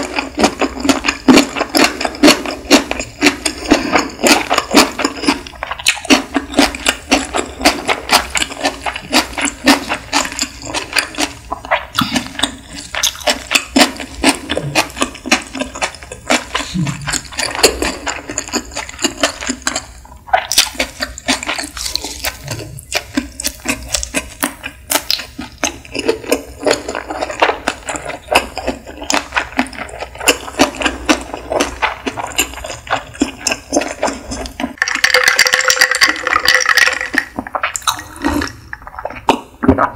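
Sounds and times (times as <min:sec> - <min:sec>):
chewing mouth clicks and smacks: 0:00.0 - 0:39.9.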